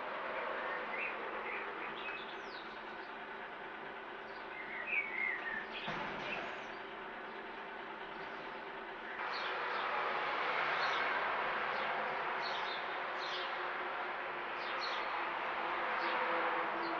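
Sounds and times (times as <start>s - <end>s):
songbirds chirping: 0.1s - 16.9s.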